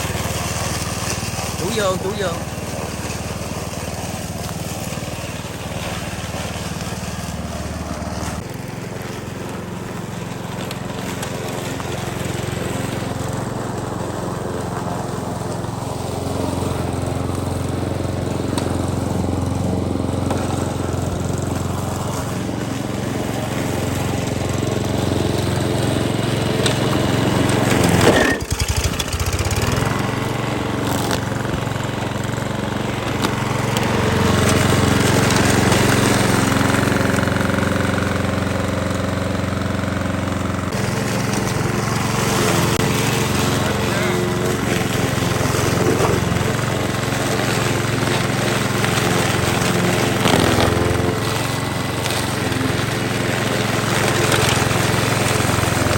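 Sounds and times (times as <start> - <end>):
petrol grass cutter running: 0.0 - 55.9.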